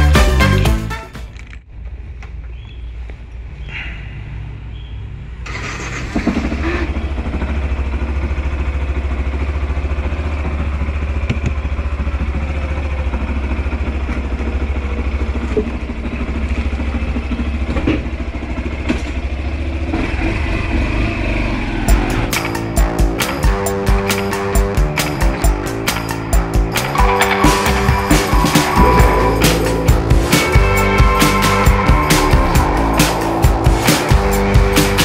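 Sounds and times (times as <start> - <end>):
motorcycle engine running: 6.1 - 35.0.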